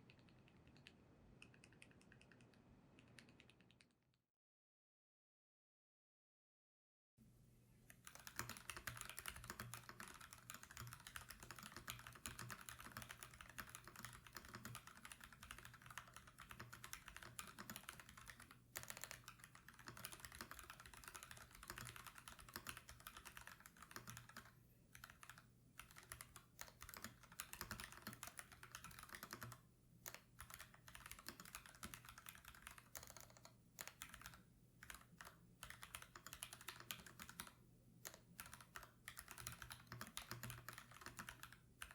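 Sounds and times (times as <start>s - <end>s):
typing on mechanical keyboard: 7.9s - 41.9s.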